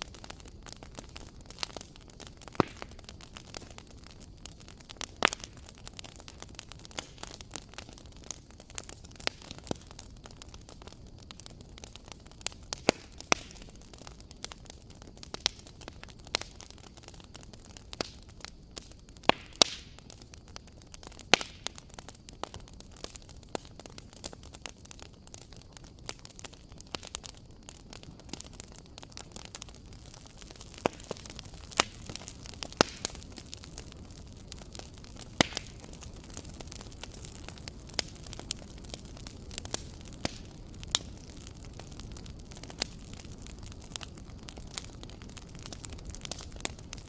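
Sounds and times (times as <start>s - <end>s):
low steady hiss: 0.0s - 47.0s
wood fire crackling: 0.0s - 47.0s.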